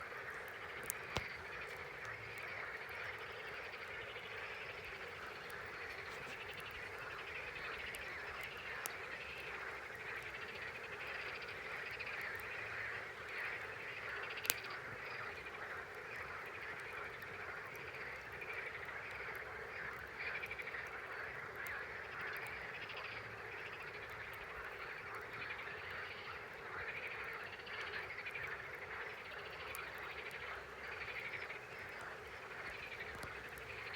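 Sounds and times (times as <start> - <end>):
campfire popping: 0.0 - 33.9
frogs croaking: 0.0 - 33.9.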